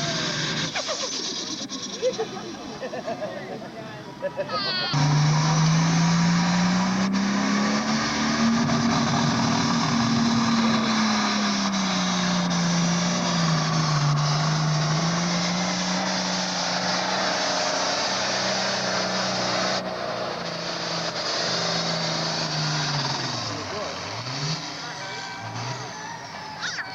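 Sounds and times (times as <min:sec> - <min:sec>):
tractor engine at full throttle: 0:00.0 - 0:26.9.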